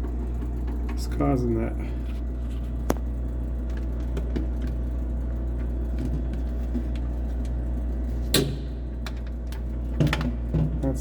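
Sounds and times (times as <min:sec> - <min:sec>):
refrigerator humming: 0:00.0 - 0:11.0.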